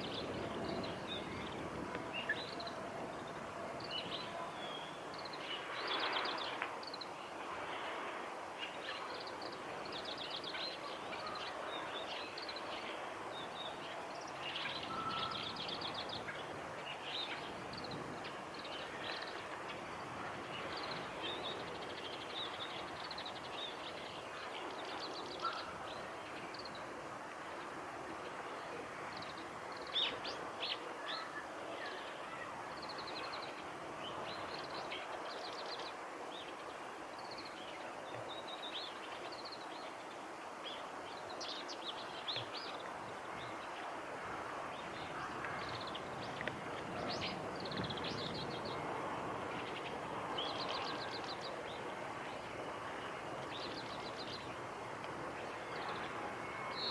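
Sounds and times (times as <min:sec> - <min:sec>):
distant environmental noise: 0:00.0 - 0:56.9.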